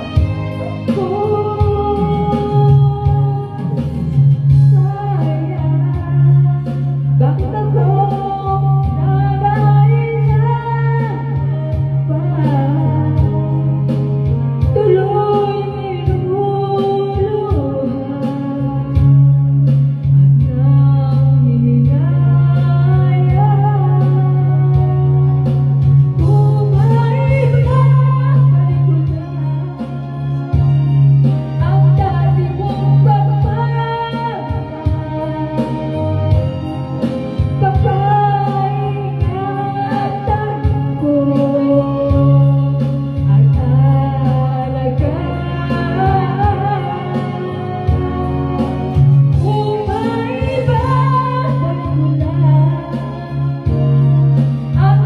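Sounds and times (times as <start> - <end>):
karaoke backing track: 0.0 - 55.0
woman singing into microphone: 0.0 - 55.0.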